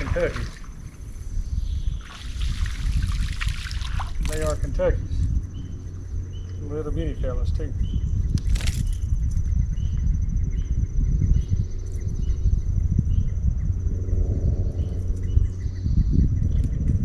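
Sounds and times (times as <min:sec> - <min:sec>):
insects chirping: 0:00.0 - 0:16.7
constant low rumble: 0:00.0 - 0:17.0
low hum: 0:00.0 - 0:17.0.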